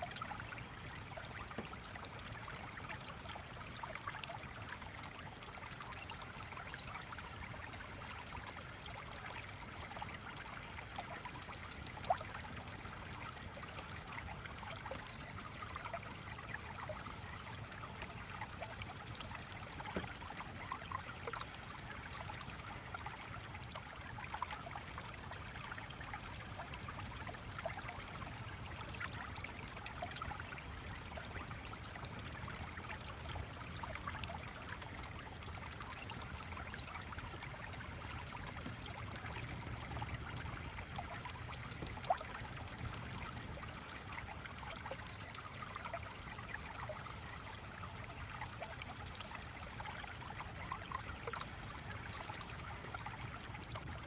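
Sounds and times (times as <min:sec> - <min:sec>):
stream trickling and burbling: 0:00.0 - 0:54.0.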